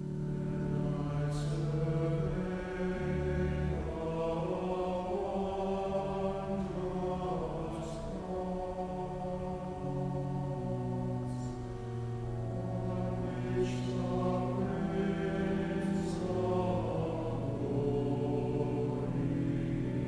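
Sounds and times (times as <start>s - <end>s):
slow chant-like choral singing: 0.0s - 20.0s.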